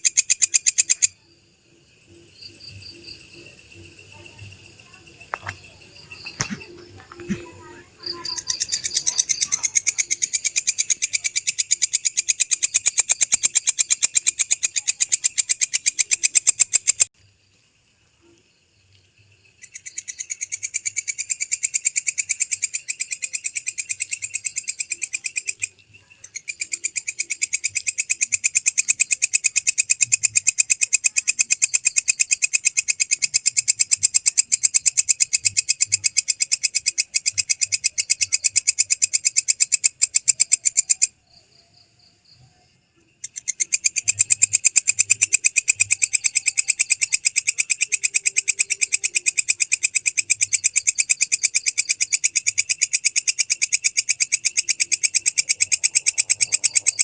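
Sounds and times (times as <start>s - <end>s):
bush cricket chirping: 0.0s - 57.0s.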